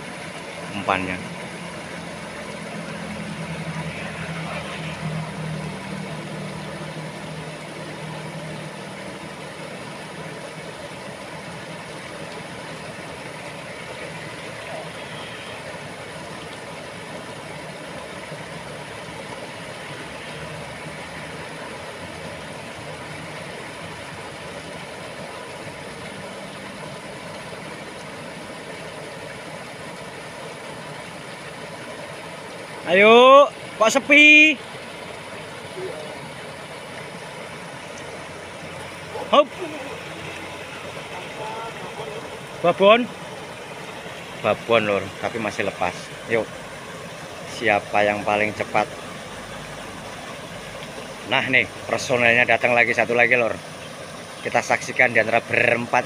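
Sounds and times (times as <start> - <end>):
water pouring over a weir: 0.0 - 56.0.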